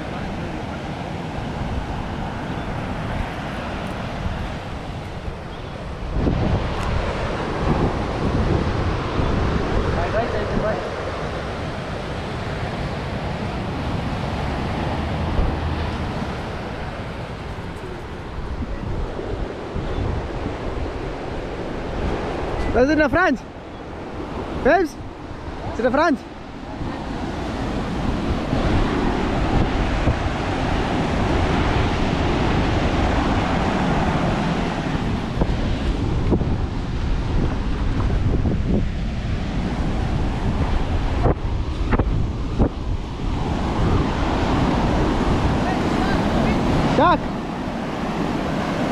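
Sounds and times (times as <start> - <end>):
ocean surf on beach: 0.0 - 48.9
wind buffeting microphone: 0.0 - 48.9.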